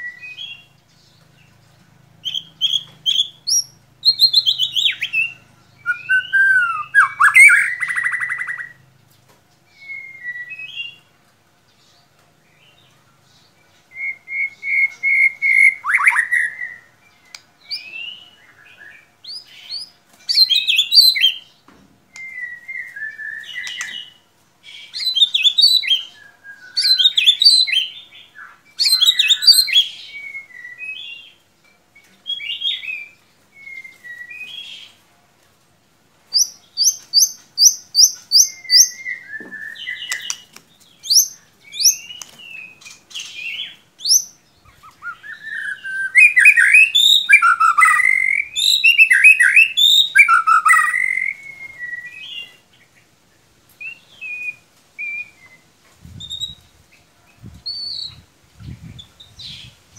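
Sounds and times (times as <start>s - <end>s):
songbird singing: 0.0s - 35.0s, 36.2s - 59.9s.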